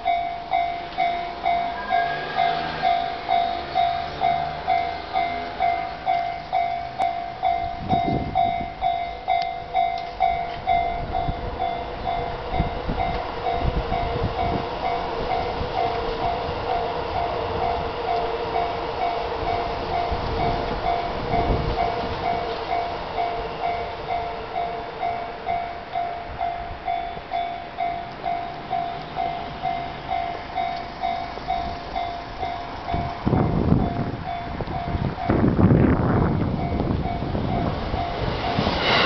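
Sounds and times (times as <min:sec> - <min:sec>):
level crossing warning bell: 0:00.0 - 0:39.0
passing train: 0:00.0 - 0:39.0.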